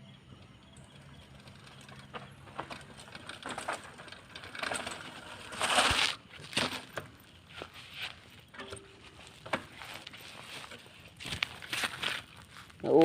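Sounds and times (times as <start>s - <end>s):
bike rattling on dirt trail: 0.1s - 13.0s.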